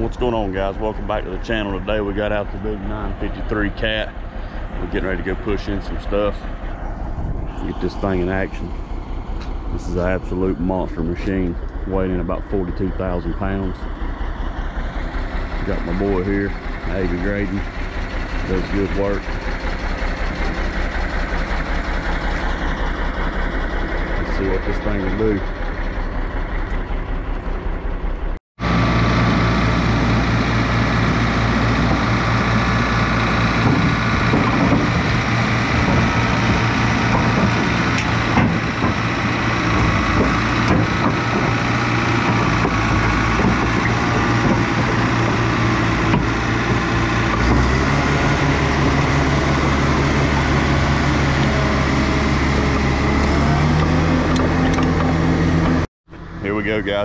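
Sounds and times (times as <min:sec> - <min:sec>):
track loader diesel engine running: 0:00.0 - 0:57.0.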